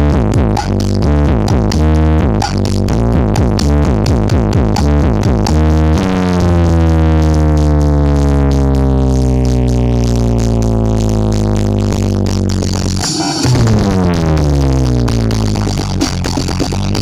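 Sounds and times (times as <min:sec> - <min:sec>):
deep bass chord: 0:00.0 - 0:17.0
electronic dance music: 0:00.0 - 0:17.0.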